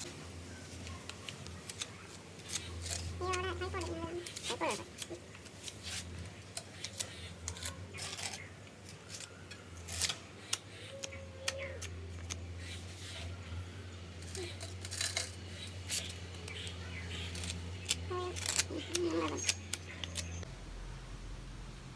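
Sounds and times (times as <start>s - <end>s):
clicks of hard objects handled: 0.0s - 13.4s, 14.2s - 20.5s.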